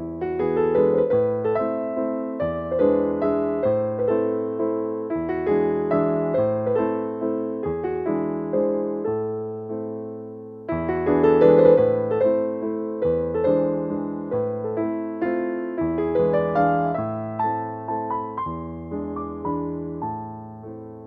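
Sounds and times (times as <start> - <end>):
piano tune: 0.0 - 21.0.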